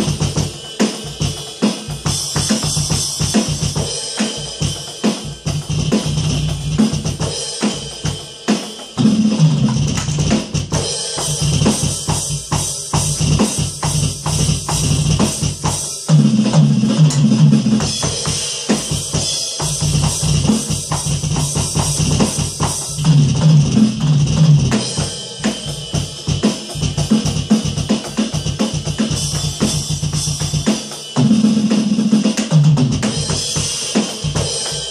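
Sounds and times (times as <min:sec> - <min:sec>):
electronic drum kit playing: 0:00.0 - 0:34.9
song with bass line: 0:02.0 - 0:08.0, 0:09.0 - 0:34.9.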